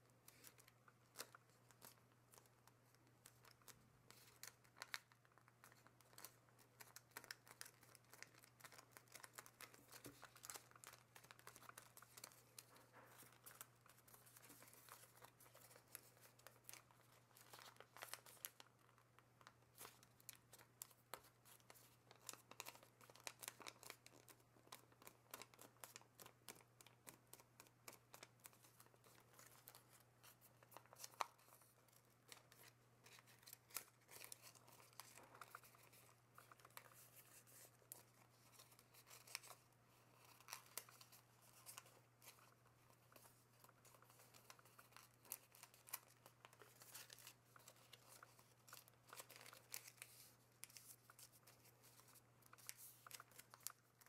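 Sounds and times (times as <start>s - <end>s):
paper crinkling as folded: 0.0s - 54.0s.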